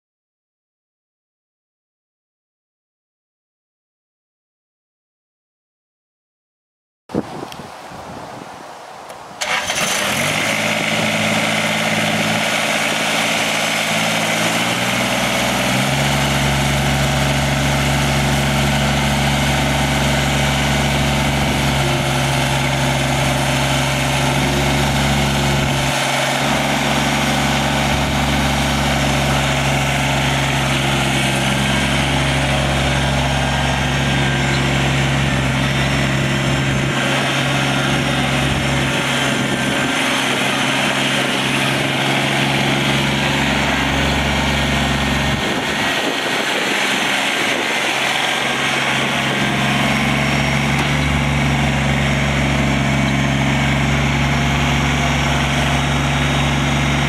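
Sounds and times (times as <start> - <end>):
diesel tractor engine starting: 9.4 - 57.0.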